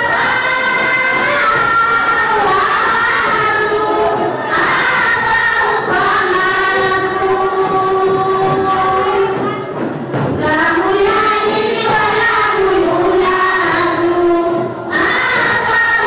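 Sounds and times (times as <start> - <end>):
women's choir chanting: 0.0 - 9.8, 10.4 - 16.0.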